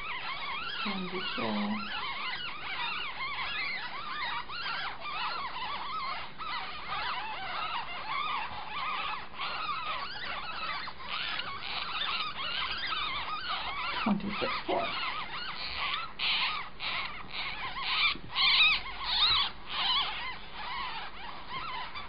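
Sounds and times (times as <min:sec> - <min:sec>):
ferret kits squeaking: 0:00.0 - 0:22.0.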